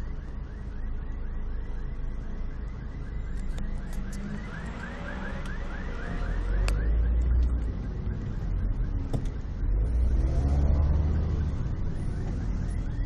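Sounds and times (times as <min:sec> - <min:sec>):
car alarm siren whooping: 0:00.0 - 0:13.0
engine and road noise: 0:00.0 - 0:13.0.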